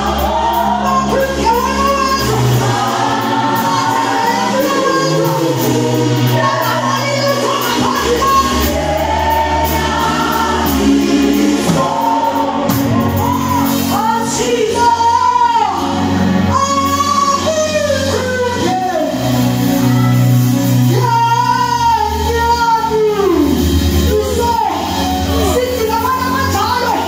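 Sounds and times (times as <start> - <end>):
gospel choir singing: 0.0 - 27.0
sustained low backing notes: 0.0 - 27.0.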